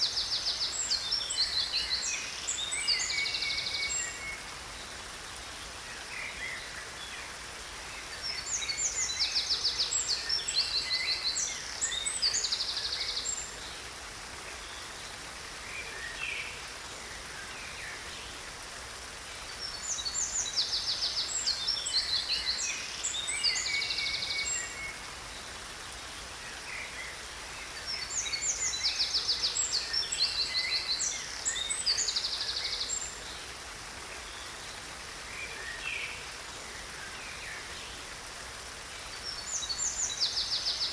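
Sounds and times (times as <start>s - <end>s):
rush of falling water: 0.0s - 40.9s.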